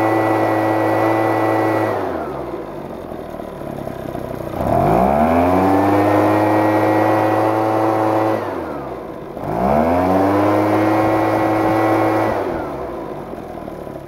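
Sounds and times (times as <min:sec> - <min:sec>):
leaf blower engine revving: 0:00.0 - 0:14.0.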